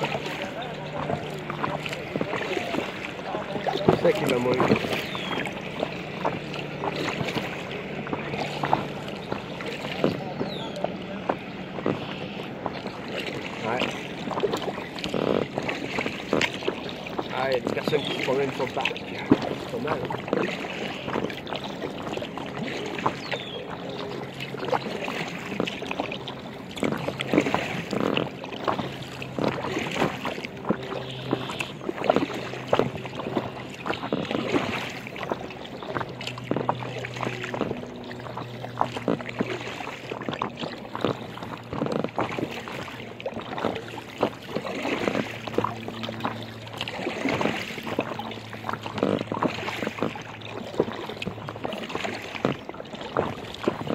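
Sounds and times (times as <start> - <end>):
paddle strokes splashing: 0.0 - 53.9
water lapping against hull: 0.0 - 53.9.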